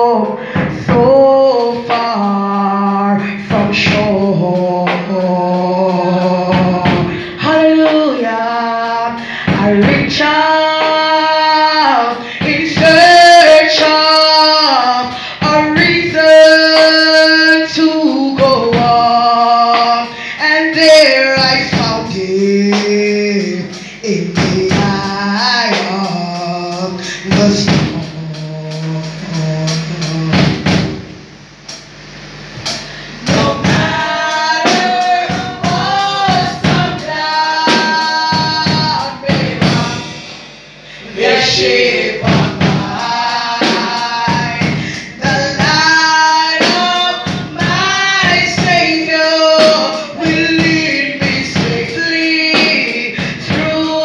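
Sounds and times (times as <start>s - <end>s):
group singing gospel song: 0.0s - 30.9s, 32.6s - 54.0s
steady beat: 0.0s - 54.0s.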